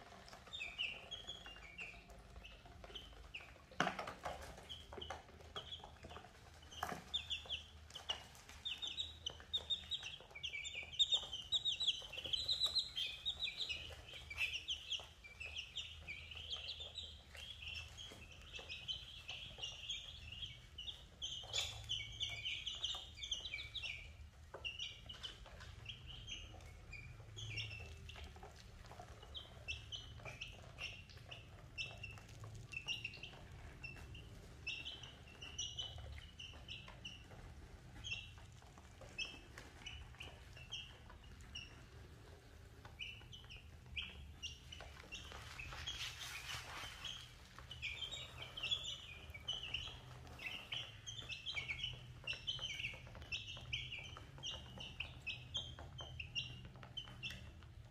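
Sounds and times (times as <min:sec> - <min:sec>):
chicks peeping: 0:00.0 - 0:57.9.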